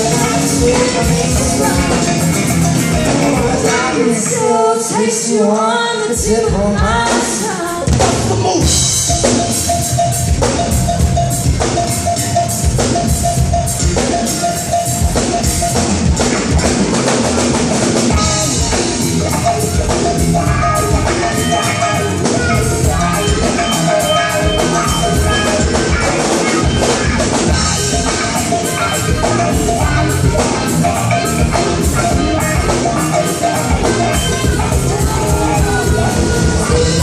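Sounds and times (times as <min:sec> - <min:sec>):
drum kit beat: 0:00.0 - 0:04.8, 0:06.1 - 0:37.0
sustained guitar or keyboard notes: 0:00.0 - 0:05.7, 0:06.6 - 0:37.0.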